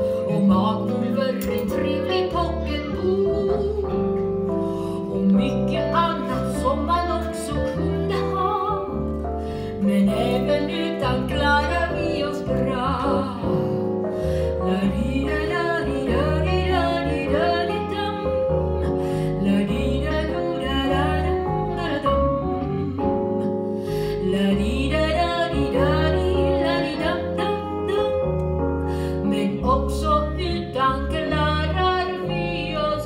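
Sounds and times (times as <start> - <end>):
instrumental backing with bass: 0.0 - 33.0
person singing: 0.0 - 33.0.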